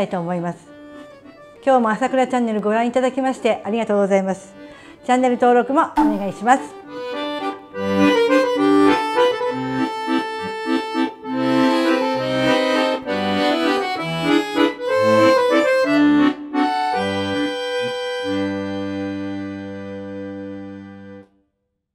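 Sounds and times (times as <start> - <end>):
upbeat instrumental music: 0.6 - 21.2.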